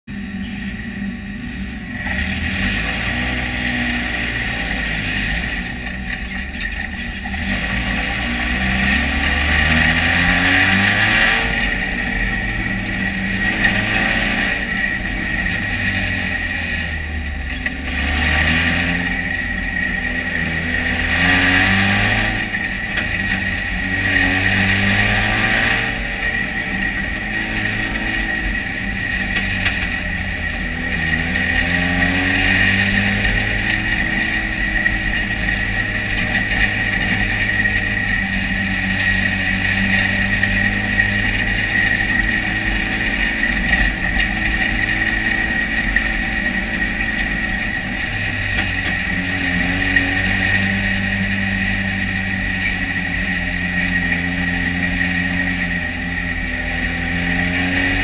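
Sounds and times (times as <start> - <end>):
race car engine revving: 0.0 - 58.0
steady high whine: 0.0 - 58.0.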